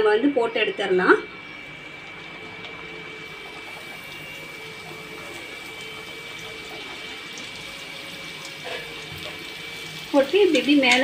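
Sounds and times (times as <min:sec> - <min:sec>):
dough sizzling in hot oil: 0:01.4 - 0:11.0.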